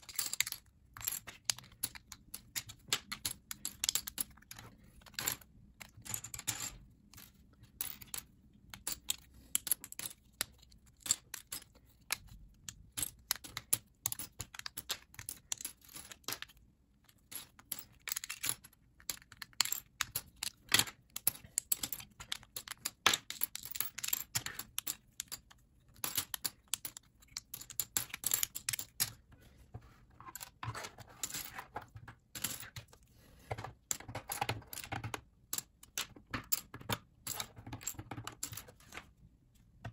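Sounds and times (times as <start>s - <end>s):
plastic bricks clicking and clattering: 0.0s - 29.4s, 30.2s - 39.1s.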